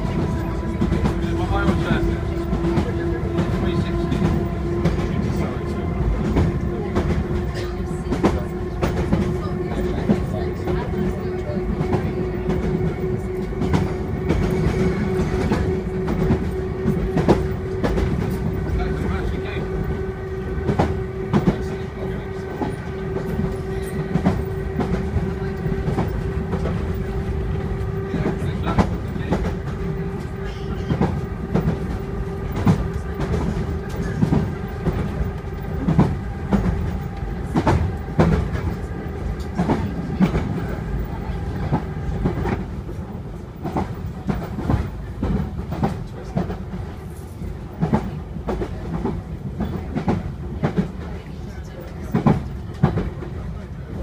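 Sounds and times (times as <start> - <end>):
train wheels clicking over rail joints: 0.0 - 53.4
train running rumble: 0.0 - 54.0.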